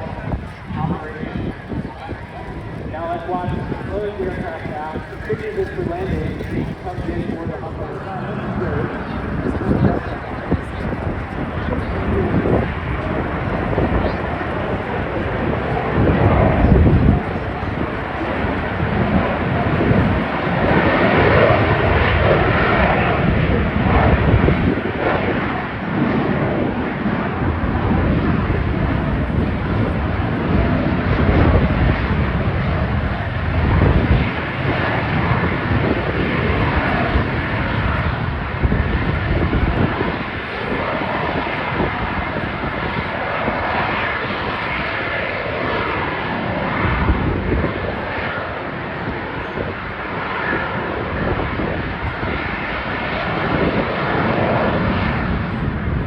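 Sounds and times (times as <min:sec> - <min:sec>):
military aircraft engines rumbling: 0:00.0 - 0:56.0.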